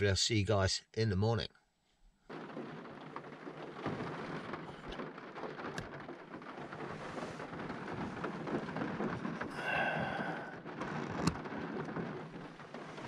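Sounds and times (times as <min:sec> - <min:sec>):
rain on car roof: 0:00.0 - 0:13.0
single raindrops striking sharply: 0:02.3 - 0:13.0.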